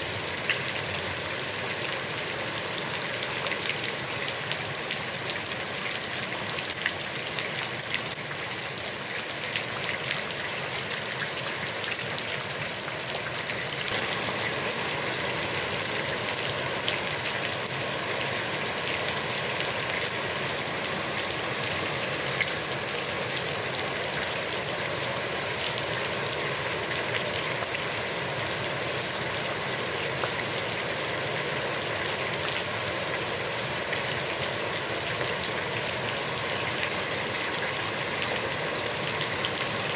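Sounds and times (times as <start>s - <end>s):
heavy rain falling on a pond: 0.0s - 39.9s.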